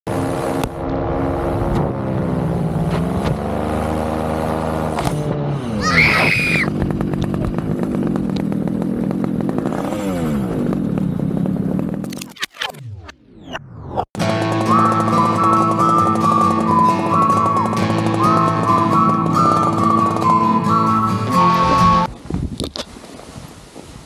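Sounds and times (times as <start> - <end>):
paramotor engine running: 0.1 - 12.2, 14.2 - 22.1.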